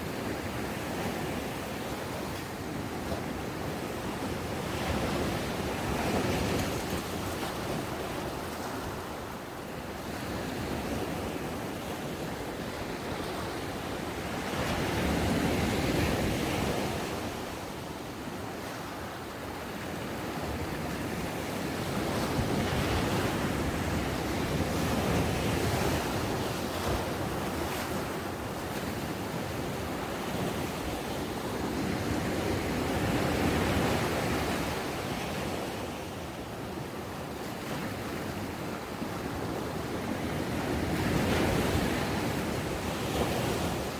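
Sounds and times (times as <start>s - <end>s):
ocean waves breaking on sand: 0.0s - 43.9s
wind noise on microphone: 0.0s - 43.9s.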